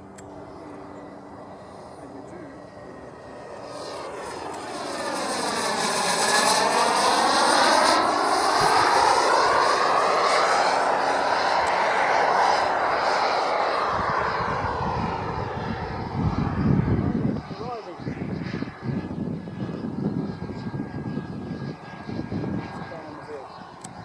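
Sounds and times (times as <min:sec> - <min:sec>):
low irregular buffeting: 0:00.0 - 0:24.0
model jet engine flying past: 0:00.0 - 0:24.0.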